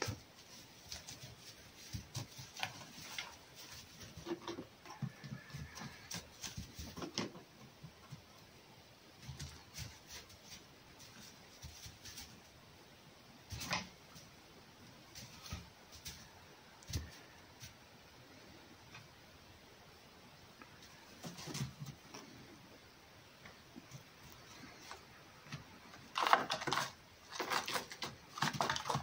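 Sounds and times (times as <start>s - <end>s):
animals wrestling on hay: 0.0s - 29.0s.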